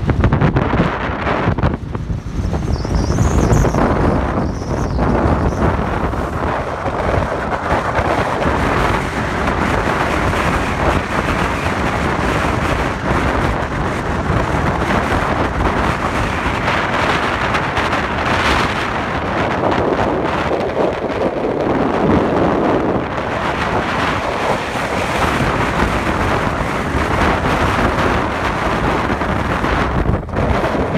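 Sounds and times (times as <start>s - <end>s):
road noise: 0.0s - 30.9s
wind rushing over microphone: 0.0s - 30.9s.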